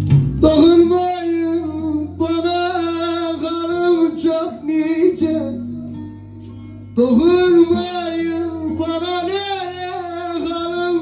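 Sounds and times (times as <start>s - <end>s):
plucked string accompaniment: 0.0s - 11.0s
person singing long wavering notes: 0.4s - 11.0s.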